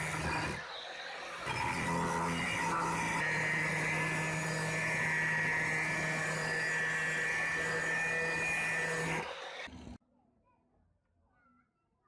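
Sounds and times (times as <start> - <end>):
electric power tool whining: 0.0 - 10.0.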